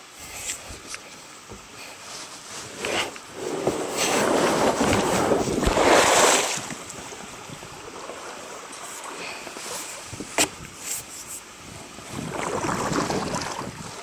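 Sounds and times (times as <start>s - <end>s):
wind and water rushing: 2.7s - 14.0s.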